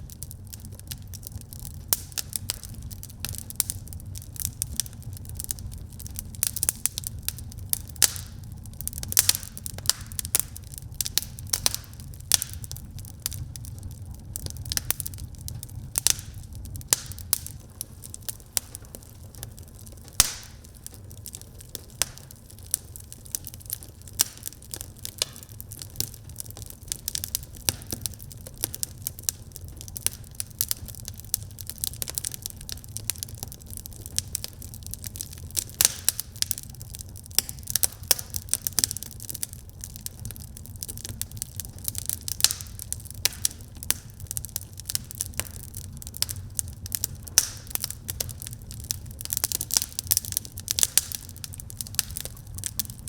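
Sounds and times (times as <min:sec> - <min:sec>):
low steady fire rumble: 0:00.0 - 0:53.0
wood fire crackling: 0:00.0 - 0:53.0.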